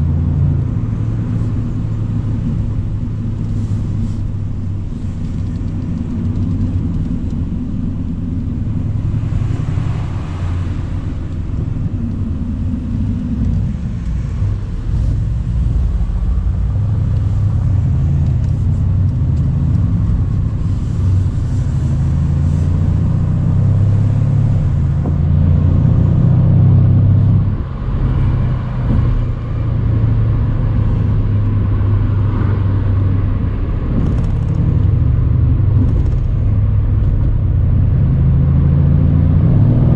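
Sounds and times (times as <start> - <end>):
car engine droning while driving: 0.0 - 39.9.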